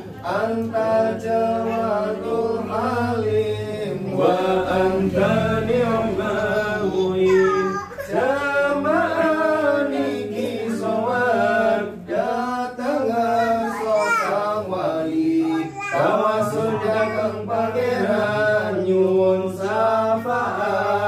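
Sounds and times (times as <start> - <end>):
person chanting a prayer: 0.0 - 21.0.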